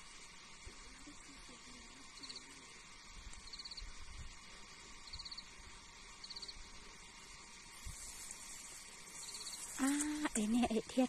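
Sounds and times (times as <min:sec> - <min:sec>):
insect chirping: 0:00.0 - 0:11.0
low outdoor hiss: 0:00.0 - 0:11.0.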